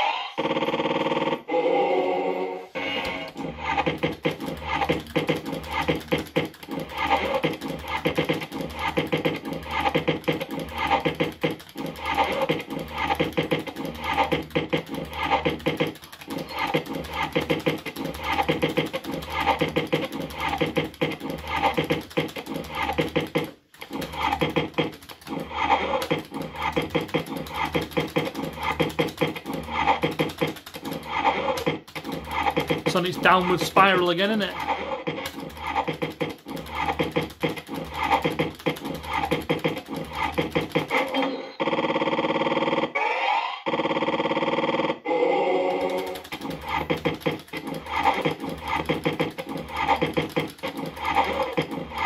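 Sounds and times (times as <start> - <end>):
electronic sound effects: 0.0 - 43.0.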